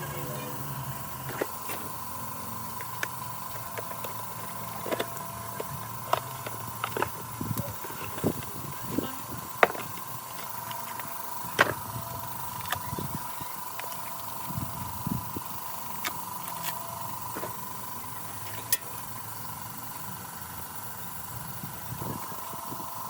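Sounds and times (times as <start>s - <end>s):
steady high-pitched hum: 0.0s - 23.0s.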